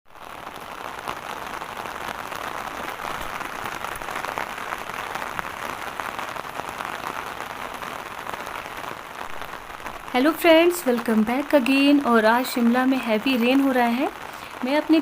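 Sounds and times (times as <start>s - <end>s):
heavy rain: 0.1s - 15.0s.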